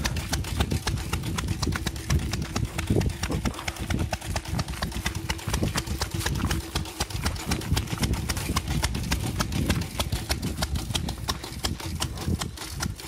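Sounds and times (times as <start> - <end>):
small steam engine ticking: 0.0 - 13.0.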